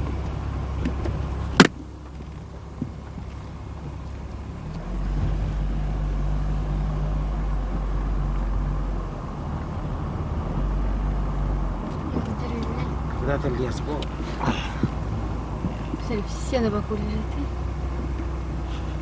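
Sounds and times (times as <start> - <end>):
car engine: 0.0 - 19.0
road noise inside car: 0.0 - 19.0.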